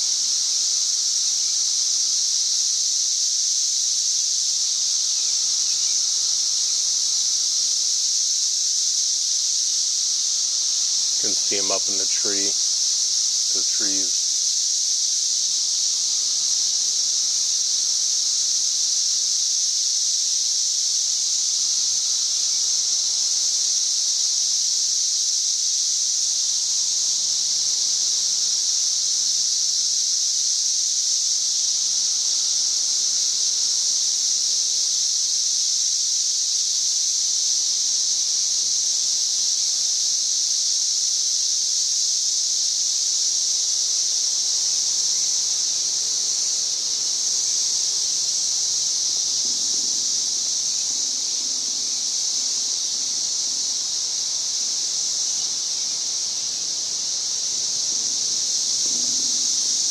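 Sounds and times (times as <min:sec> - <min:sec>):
cicadas singing: 0:00.0 - 0:59.9.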